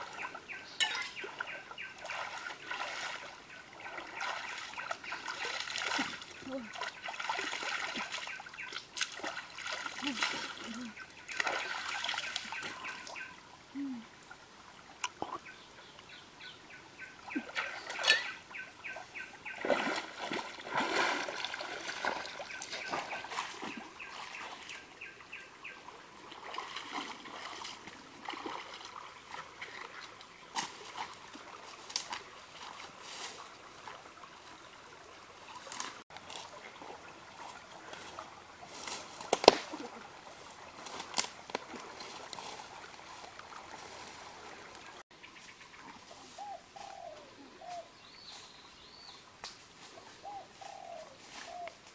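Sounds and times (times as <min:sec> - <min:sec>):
legs wading through water: 0:00.0 - 0:13.6, 0:16.7 - 0:51.9
water splashing: 0:00.0 - 0:15.4, 0:17.1 - 0:25.3, 0:25.9 - 0:45.0
stream running: 0:00.0 - 0:51.9.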